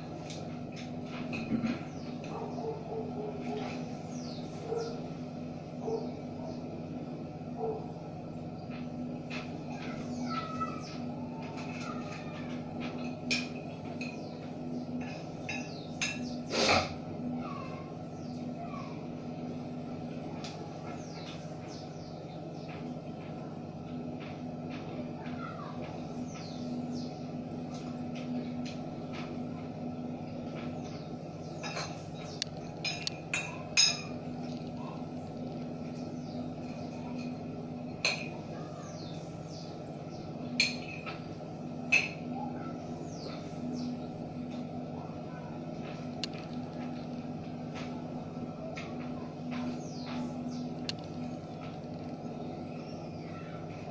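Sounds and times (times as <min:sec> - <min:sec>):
small birds chirping: 0:00.0 - 0:53.9
steady low hum: 0:00.0 - 0:53.9.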